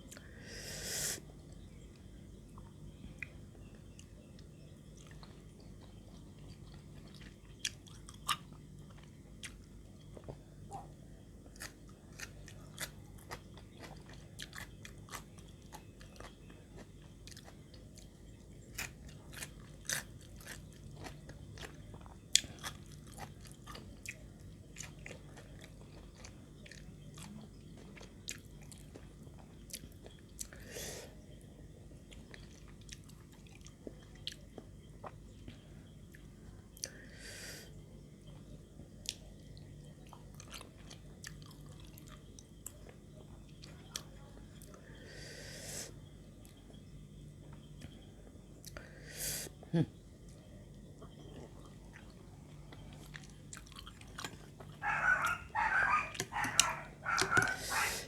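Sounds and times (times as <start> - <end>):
chewing and crunching food: 1.2 - 58.0.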